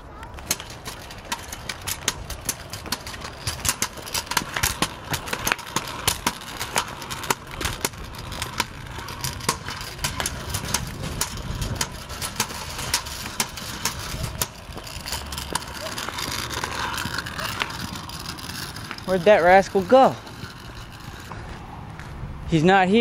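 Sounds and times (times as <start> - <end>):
scooter wheels rumbling on concrete: 0.0 - 23.0
sharp clicks and rattles: 0.2 - 21.6.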